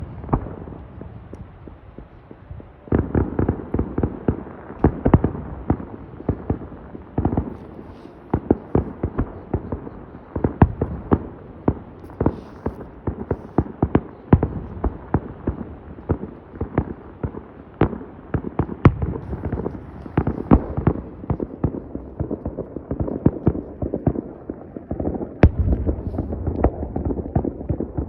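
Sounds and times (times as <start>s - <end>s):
fireworks bangs and pops: 0.0s - 28.0s.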